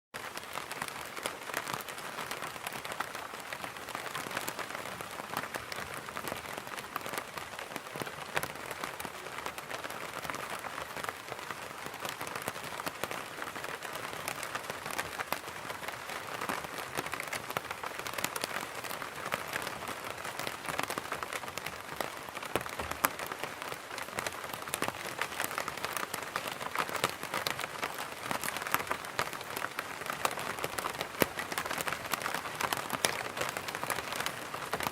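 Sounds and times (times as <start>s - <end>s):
rain patter on umbrella: 0.1s - 34.9s.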